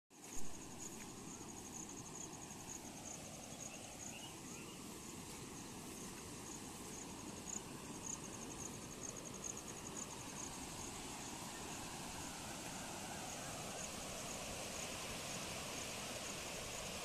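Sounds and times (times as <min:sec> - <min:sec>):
insect chirping: 0:00.2 - 0:17.0
water flowing: 0:00.2 - 0:17.0.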